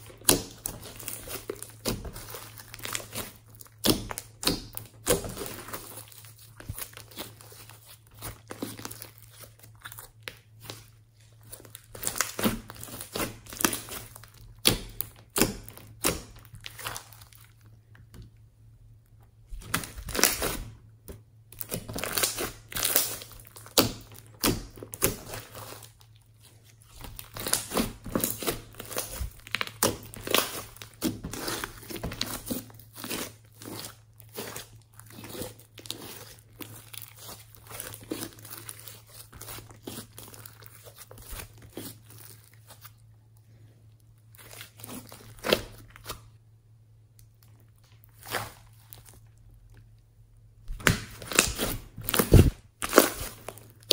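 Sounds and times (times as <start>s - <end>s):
hands squishing sticky slime: 0.0s - 18.2s, 19.4s - 49.9s, 50.7s - 53.9s.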